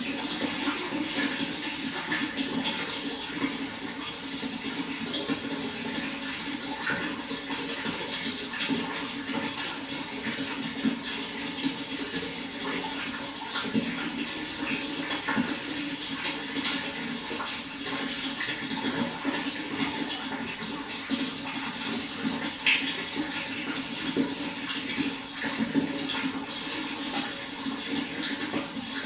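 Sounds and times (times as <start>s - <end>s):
water flowing: 0.0s - 29.0s.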